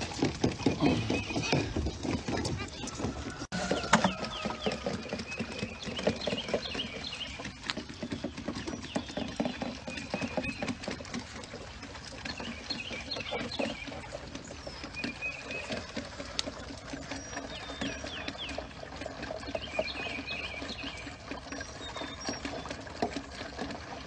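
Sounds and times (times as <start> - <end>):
goat kids sucking bottles: 0.0 - 24.0.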